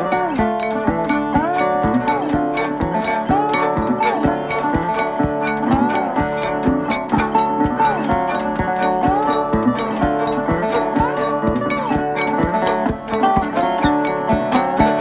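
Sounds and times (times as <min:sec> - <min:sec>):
plucked guitar over a beat: 0:00.0 - 0:15.0.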